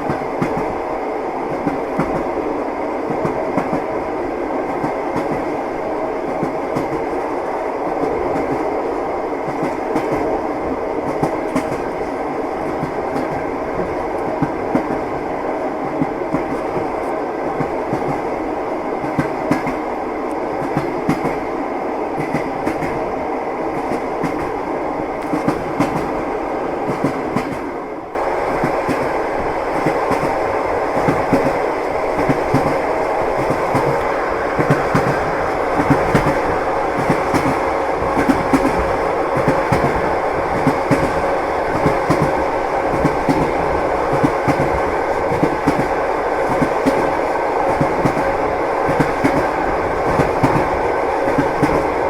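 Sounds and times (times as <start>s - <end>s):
train carriage rumble: 0.0s - 52.0s.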